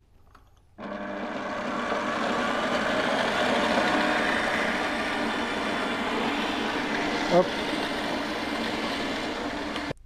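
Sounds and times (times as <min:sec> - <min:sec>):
stand mixer running: 0:00.8 - 0:10.0.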